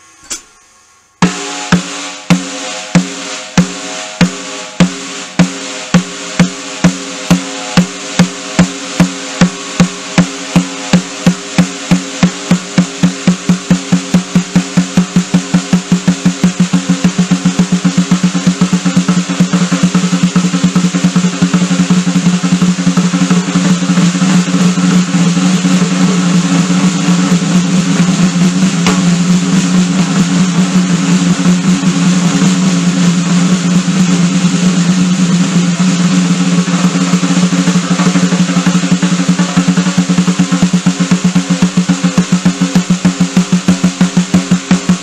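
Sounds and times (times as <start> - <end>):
cymbals ringing: 0.0 - 43.5
fast drum solo: 1.2 - 45.0.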